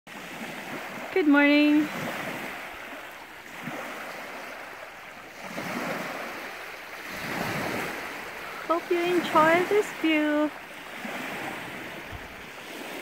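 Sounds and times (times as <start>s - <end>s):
waves lapping on pebbly shore: 0.1s - 13.0s.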